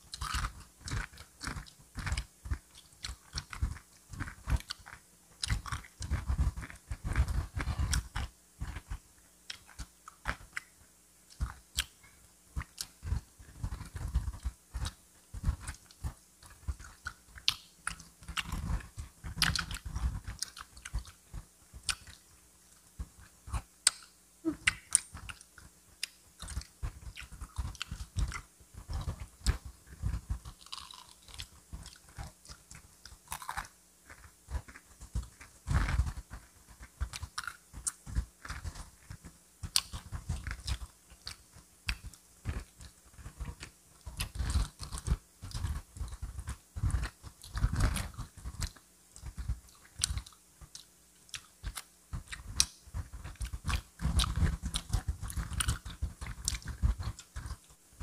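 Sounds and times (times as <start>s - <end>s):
crunching fried chicken: 0.0s - 10.7s, 11.3s - 22.2s, 23.0s - 57.7s.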